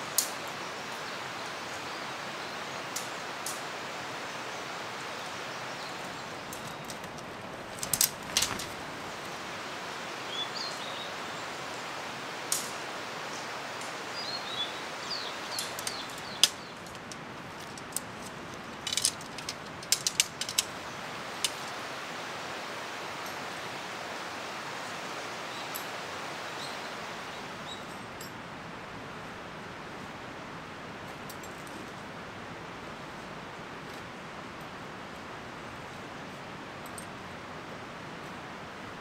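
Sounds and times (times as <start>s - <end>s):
stream rushing: 0.0s - 39.0s.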